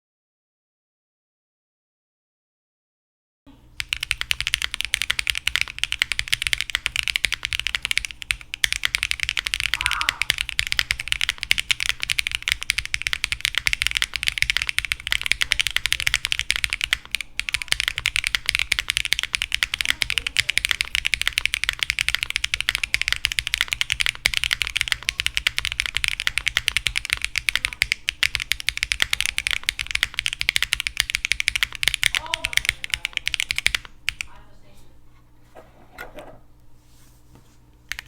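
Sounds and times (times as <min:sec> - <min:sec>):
mechanical keyboard typing: 0:03.8 - 0:34.4.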